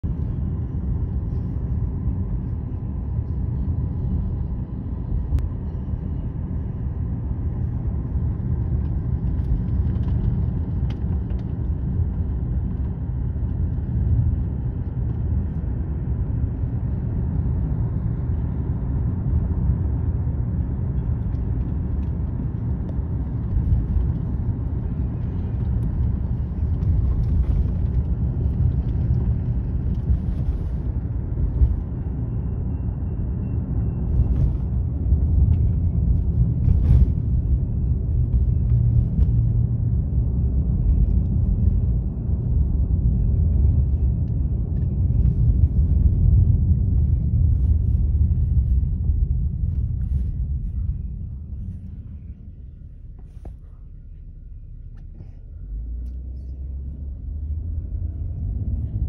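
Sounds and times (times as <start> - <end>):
car rumbling on the move: 0.0 - 59.0.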